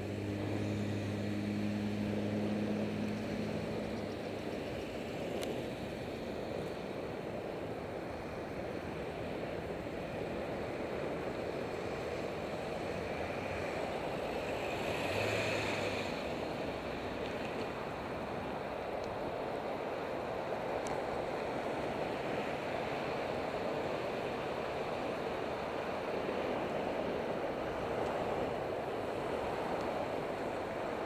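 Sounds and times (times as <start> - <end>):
road traffic rushing: 0.0 - 7.1, 10.6 - 31.0.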